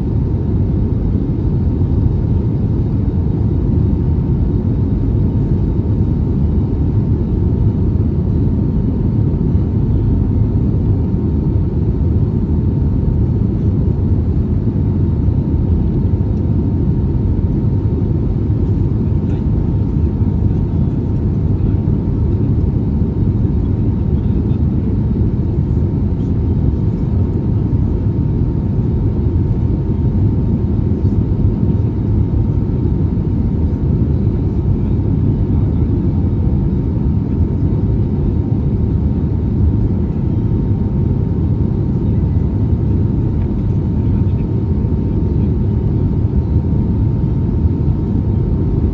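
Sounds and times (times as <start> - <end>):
airplane cabin rumble: 0.0 - 48.9
faint steady whine: 0.0 - 48.9.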